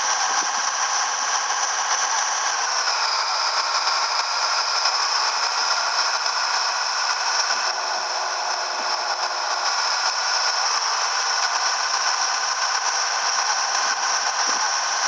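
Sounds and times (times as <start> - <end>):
truck rattling and running: 0.0 - 15.0.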